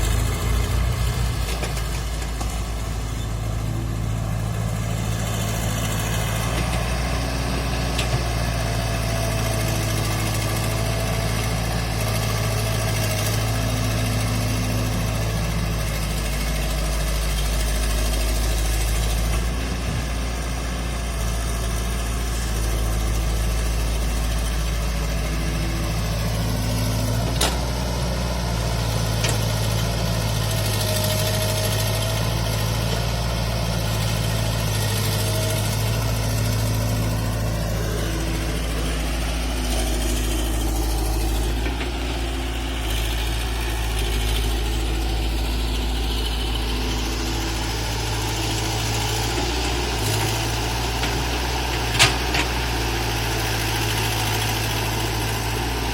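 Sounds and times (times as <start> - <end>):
diesel tractor engine idling: 0.0 - 55.9.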